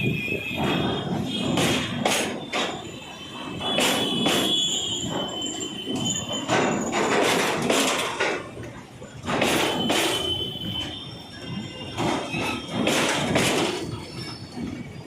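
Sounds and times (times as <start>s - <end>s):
high wheel squeal: 0.0s - 7.3s, 9.5s - 15.0s
train wheels clattering over rail joints: 0.0s - 15.0s.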